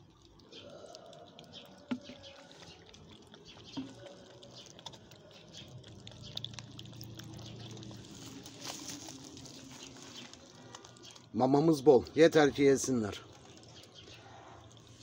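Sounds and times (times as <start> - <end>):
kittens eating: 0.0 - 15.0
wet food pouring onto plastic plate: 0.0 - 15.0.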